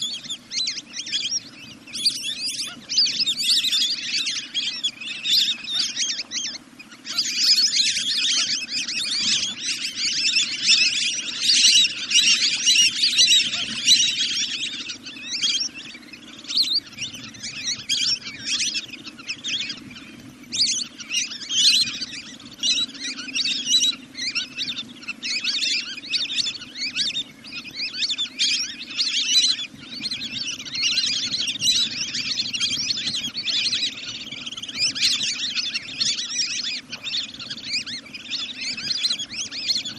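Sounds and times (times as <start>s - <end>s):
rapid high-pitched bird chirping: 0.0s - 39.9s.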